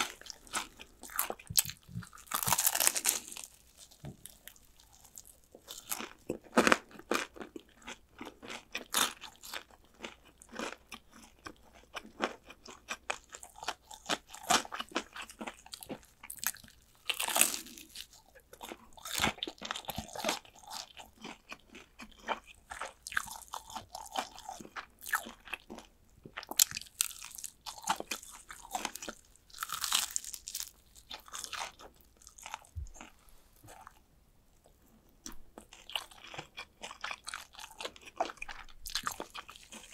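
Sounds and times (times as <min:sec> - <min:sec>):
crunching fried chicken: 0:00.0 - 0:34.0, 0:35.3 - 0:39.9.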